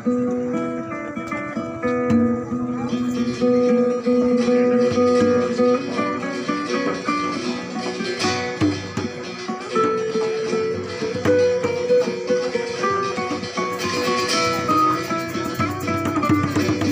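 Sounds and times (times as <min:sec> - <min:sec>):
hand drum beats: 0:00.0 - 0:16.9
plucked lute: 0:00.0 - 0:16.9
strummed acoustic guitar: 0:00.0 - 0:16.9.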